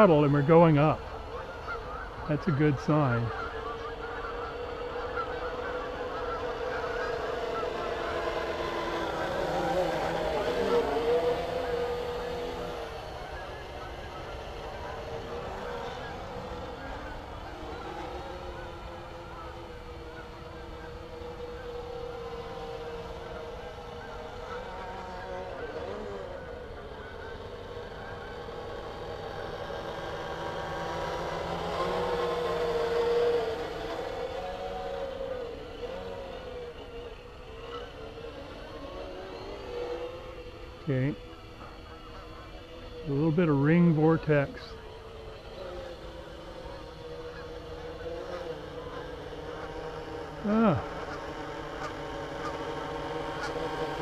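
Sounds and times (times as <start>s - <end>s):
geese honking: 0.0s - 54.0s
quadcopter rotors humming: 0.0s - 54.0s.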